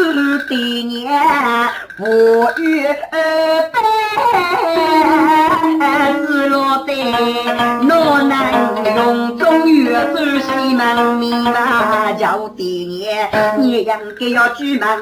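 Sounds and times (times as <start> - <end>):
person singing long bending notes: 0.0 - 15.0.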